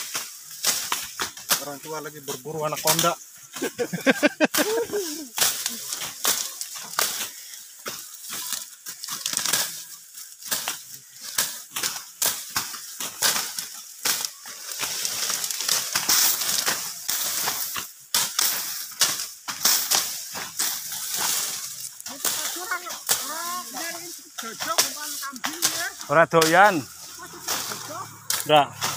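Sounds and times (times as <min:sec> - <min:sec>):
dry grass crackling and snapping: 0:00.0 - 0:28.9.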